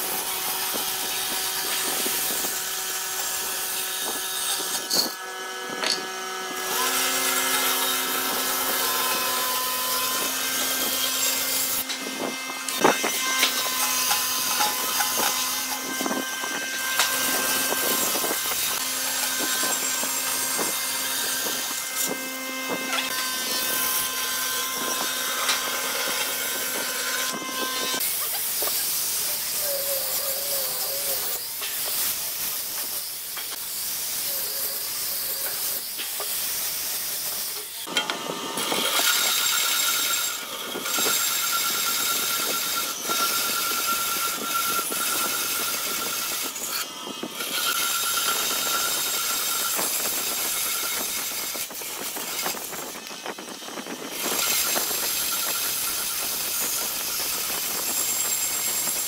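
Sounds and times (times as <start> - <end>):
band saw cutting wood: 0.0 - 59.0.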